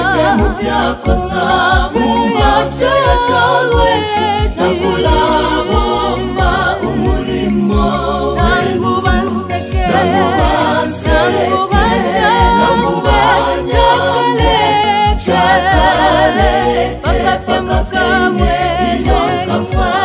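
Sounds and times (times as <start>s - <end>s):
gospel singing voices: 0.0s - 20.0s
steady low drum beat: 0.0s - 20.0s.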